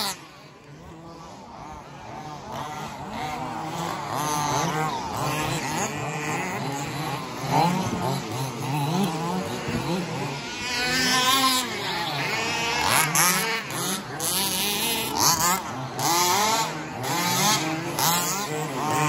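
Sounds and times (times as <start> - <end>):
rc buggy motors whining: 0.0 - 19.0.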